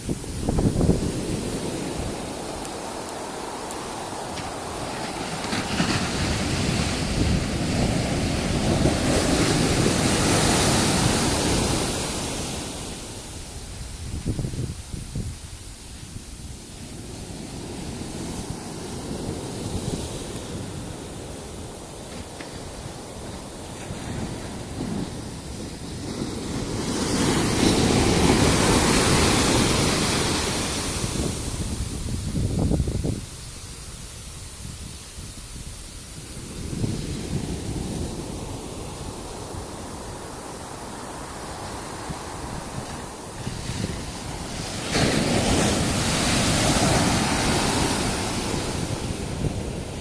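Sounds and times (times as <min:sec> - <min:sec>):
ocean wave breaking on beach: 0:00.0 - 0:14.1, 0:16.5 - 0:32.5, 0:36.0 - 0:50.0
wind rumbling on microphone: 0:00.0 - 0:50.0.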